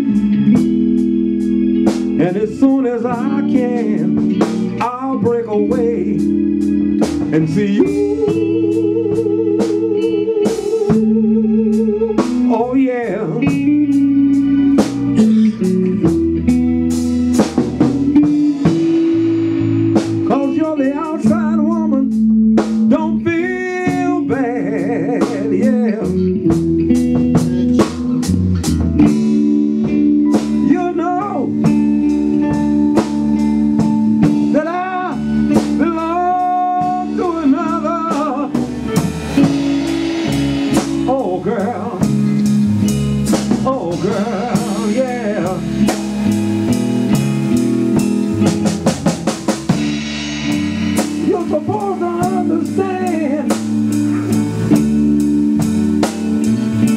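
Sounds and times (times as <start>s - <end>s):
held guitar chords: 0.0s - 56.9s
lead guitar with bending notes: 0.0s - 56.9s
steady drum beat: 0.0s - 56.9s.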